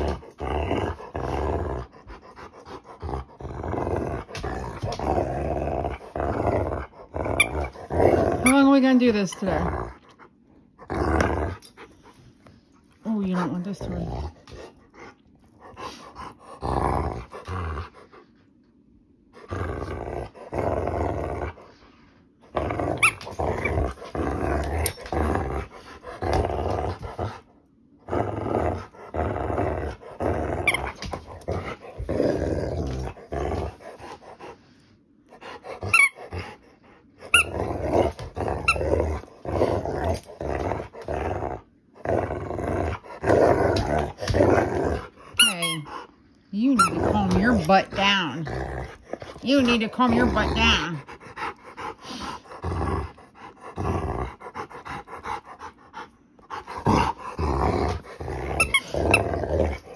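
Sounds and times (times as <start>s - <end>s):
dog growling: 0.0s - 12.1s, 13.0s - 18.2s, 19.4s - 21.8s, 22.4s - 34.6s, 35.3s - 59.9s.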